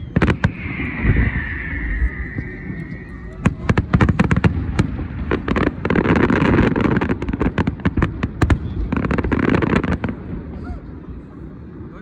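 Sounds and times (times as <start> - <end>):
fireworks crackling: 0.0 - 10.4
fireworks bangs and cracks: 0.0 - 10.5.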